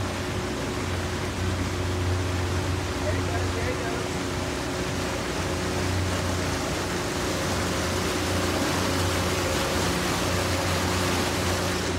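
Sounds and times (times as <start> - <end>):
boat motor humming: 0.0 - 11.9
wind and water noise: 0.0 - 11.9.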